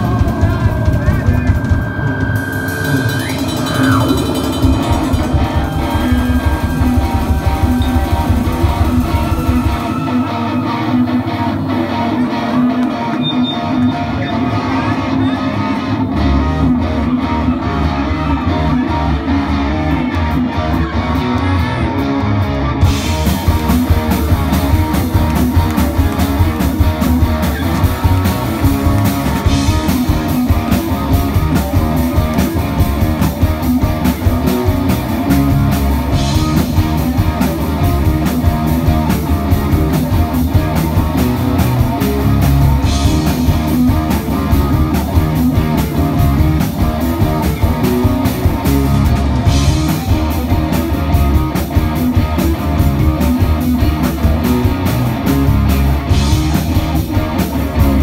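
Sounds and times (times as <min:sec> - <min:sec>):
drums and cymbals: 0:00.0 - 0:14.2, 0:22.8 - 0:58.0
bass guitar: 0:00.0 - 0:58.0
electric guitar: 0:00.0 - 0:58.0.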